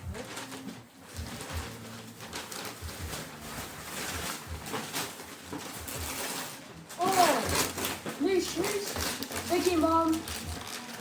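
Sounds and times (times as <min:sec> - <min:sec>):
wrapping paper rustling: 0:00.0 - 0:11.0.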